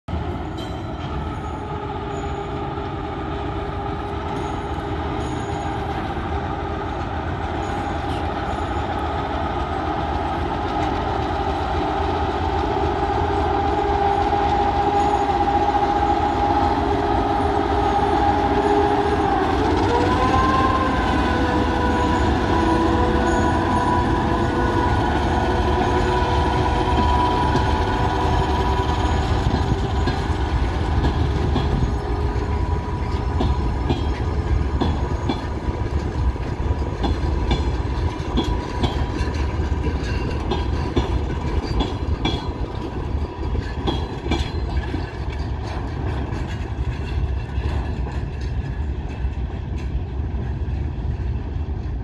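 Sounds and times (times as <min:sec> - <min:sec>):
locomotive engine whine: 0:00.1 - 0:52.0
wheels rumbling on rail: 0:00.1 - 0:52.0.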